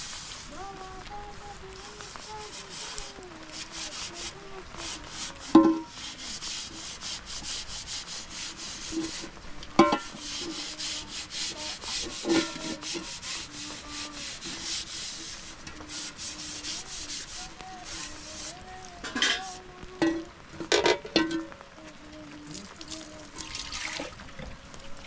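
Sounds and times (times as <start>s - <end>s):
rhythmic scraping: 0.0s - 23.4s.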